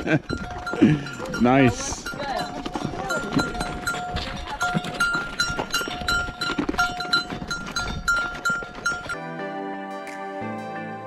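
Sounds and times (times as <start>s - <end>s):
animal bell clanking: 0.0s - 9.2s.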